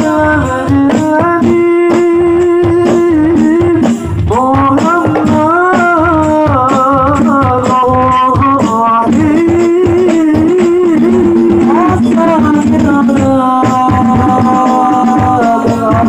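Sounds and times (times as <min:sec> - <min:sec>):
person singing ornamented notes: 0:00.0 - 0:16.0.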